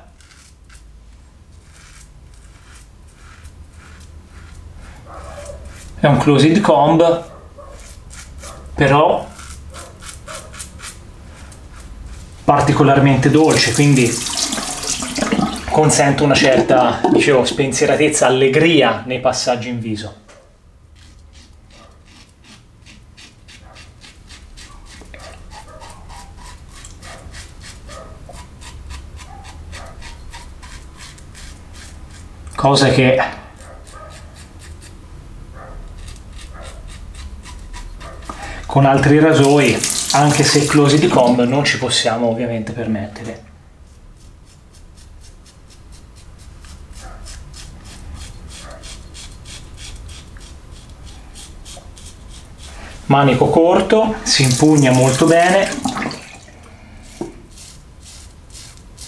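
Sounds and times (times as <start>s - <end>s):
razor scraping stubble: 0.0s - 18.7s, 20.9s - 35.0s, 35.6s - 41.8s, 43.8s - 59.0s.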